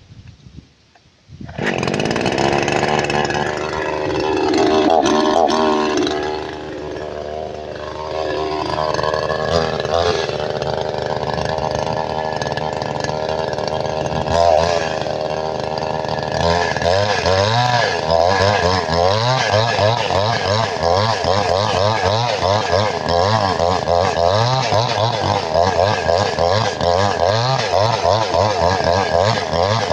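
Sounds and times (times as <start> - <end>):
chainsaw engine running: 1.4 - 29.9.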